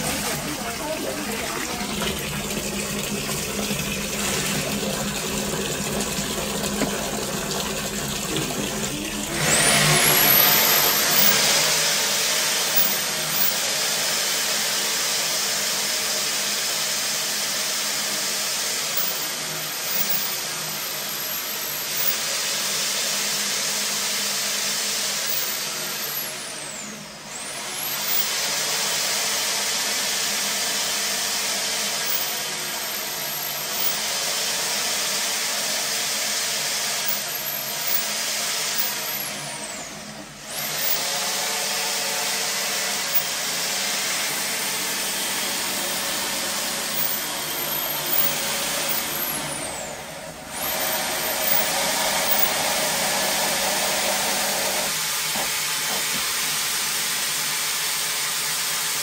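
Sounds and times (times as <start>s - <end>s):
high-pressure water jetting machine: 0.0s - 59.0s.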